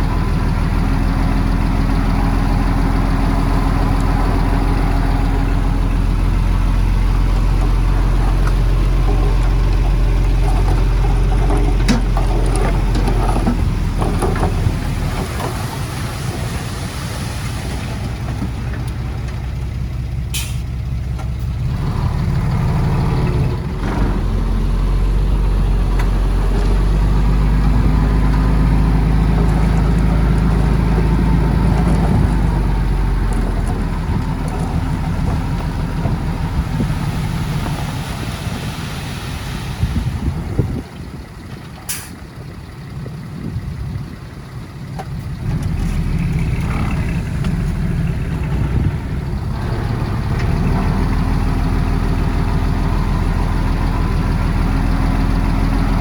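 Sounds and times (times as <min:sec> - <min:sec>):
heavy diesel engine working: 0:00.0 - 0:56.0.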